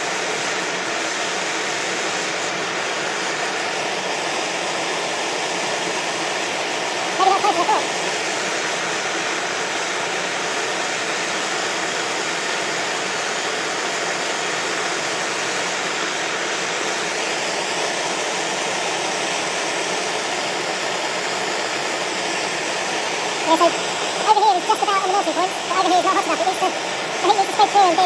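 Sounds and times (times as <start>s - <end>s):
gas torch hissing: 0.0s - 28.0s.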